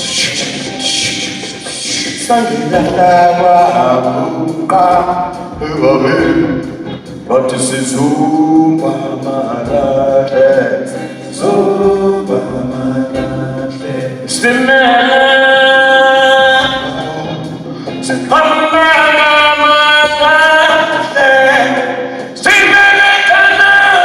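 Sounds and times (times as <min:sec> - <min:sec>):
voices singing in harmony: 0:00.0 - 0:06.4, 0:07.3 - 0:24.0.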